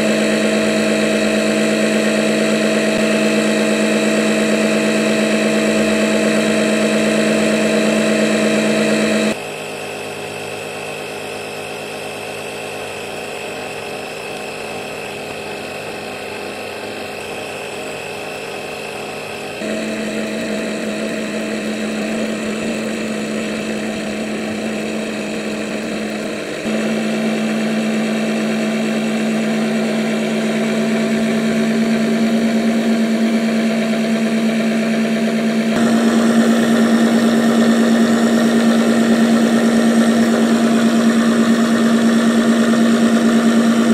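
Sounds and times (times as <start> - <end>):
pump motor buzzing hum: 0.0 - 43.9.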